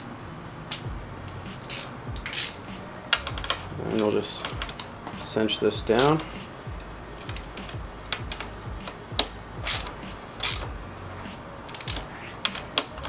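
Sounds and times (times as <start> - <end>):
hand ratchet clicking: 0.7 - 11.0, 11.6 - 13.0.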